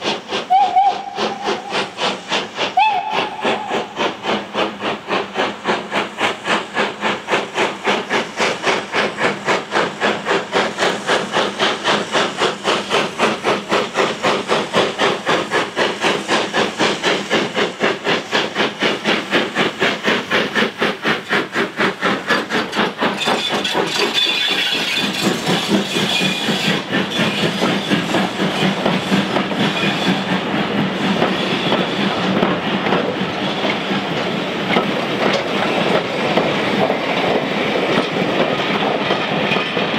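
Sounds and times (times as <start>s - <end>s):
coach wheels clattering on rails: 0.0s - 39.9s
steam locomotive exhaust chuffing: 0.0s - 39.9s.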